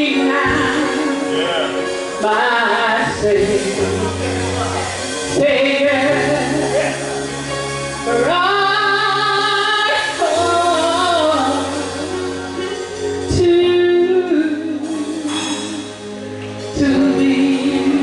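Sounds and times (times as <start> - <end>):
woman singing with vibrato: 0.0 - 7.4, 8.0 - 18.0
instrumental backing with bass: 0.0 - 18.0.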